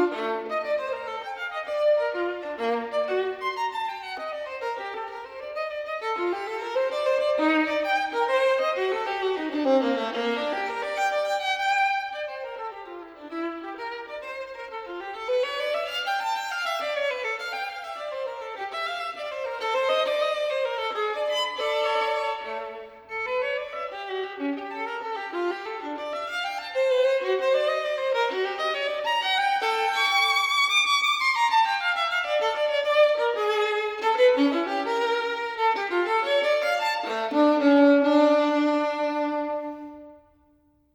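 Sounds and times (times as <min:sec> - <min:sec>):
violin melody: 0:00.0 - 0:40.9.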